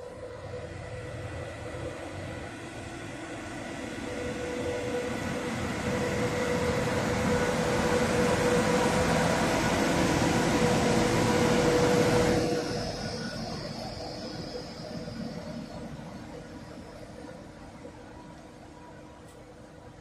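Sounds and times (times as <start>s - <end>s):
diesel train passing: 0.0s - 20.0s
engine whine: 0.0s - 20.0s.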